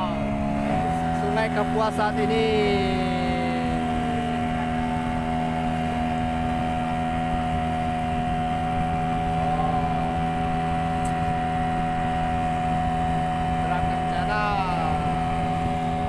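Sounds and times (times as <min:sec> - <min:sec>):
boat motor droning: 0:00.0 - 0:16.0.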